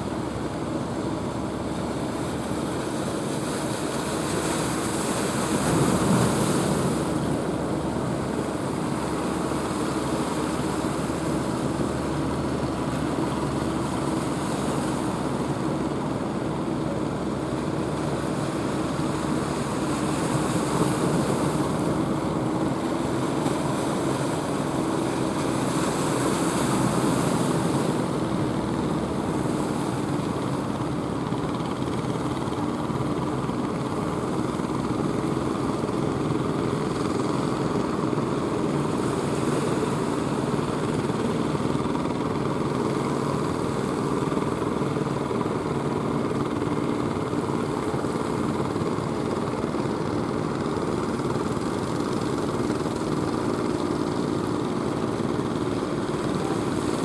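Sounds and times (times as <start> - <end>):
waves breaking: 0.0 - 57.0.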